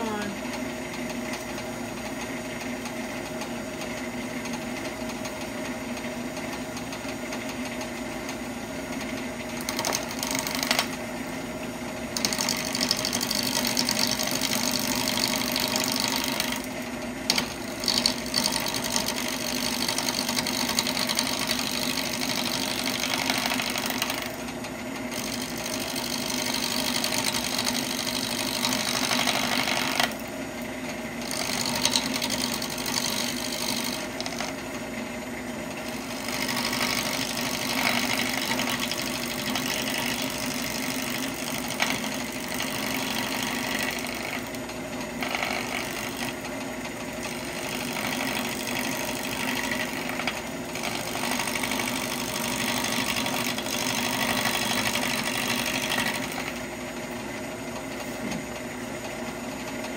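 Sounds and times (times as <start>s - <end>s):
wood lathe humming: 0.0s - 59.9s.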